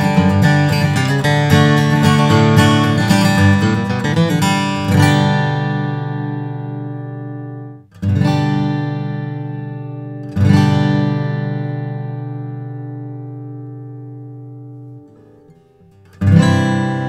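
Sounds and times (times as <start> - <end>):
acoustic guitar fingerstyle: 0.0 - 17.0.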